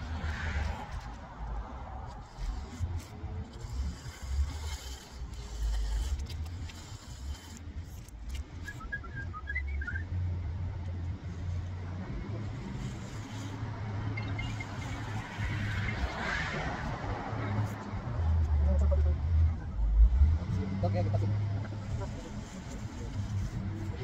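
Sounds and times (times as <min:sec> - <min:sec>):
low street rumble: 0:00.0 - 0:24.0.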